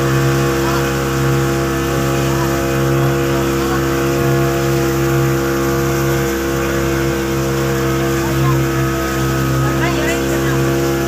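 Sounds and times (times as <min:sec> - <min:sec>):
motorboat engine drone: 0:00.0 - 0:11.0
wake rushing: 0:00.0 - 0:11.0.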